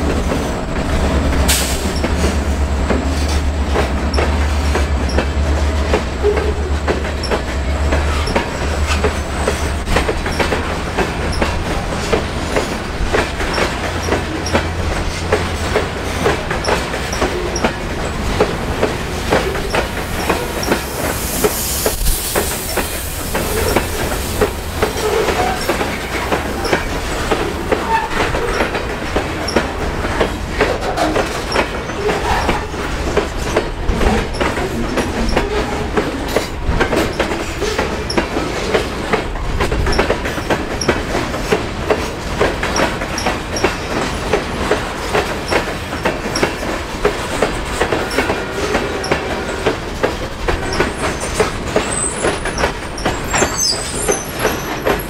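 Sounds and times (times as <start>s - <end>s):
low train rumble: 0.0s - 55.0s
train wheels clacking on rail joints: 0.0s - 55.0s.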